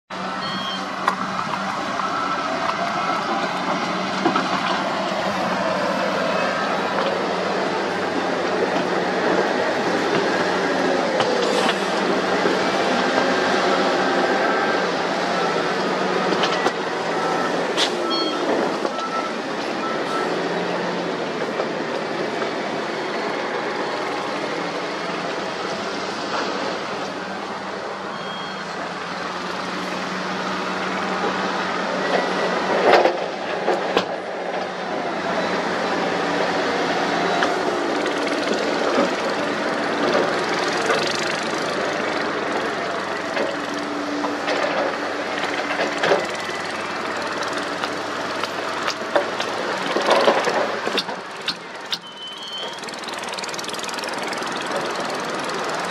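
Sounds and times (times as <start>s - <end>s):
diesel engines under load: 0.1s - 55.9s.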